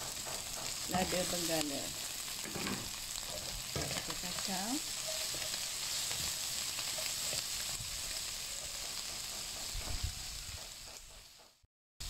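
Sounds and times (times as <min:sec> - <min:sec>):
spatula scraping pan: 0:00.0 - 0:09.8
food sizzling in hot oil: 0:00.0 - 0:11.6.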